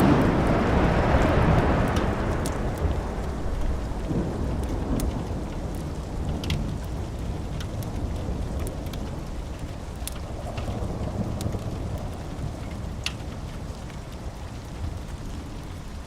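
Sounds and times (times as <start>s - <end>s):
low rumble of thunder: 0.0s - 16.0s
steady rain: 0.0s - 16.0s
wood fire crackling: 0.0s - 16.0s.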